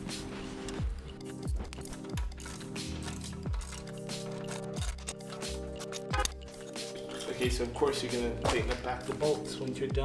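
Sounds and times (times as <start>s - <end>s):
music with deep bass hits: 0.0s - 9.3s.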